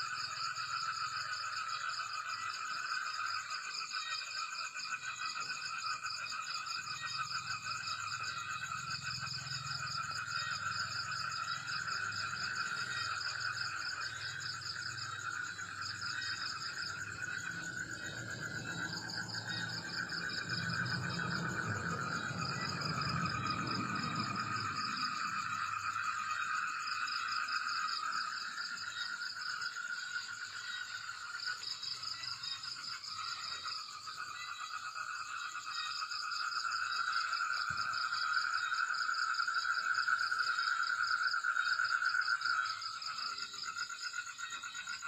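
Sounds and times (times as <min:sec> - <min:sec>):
frogs calling: 0:00.0 - 0:45.0
insects calling: 0:00.0 - 0:45.0.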